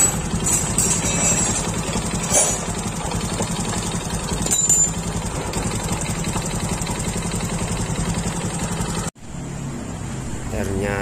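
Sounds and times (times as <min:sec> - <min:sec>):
motorcycle engine idling with knock: 0:00.0 - 0:09.1.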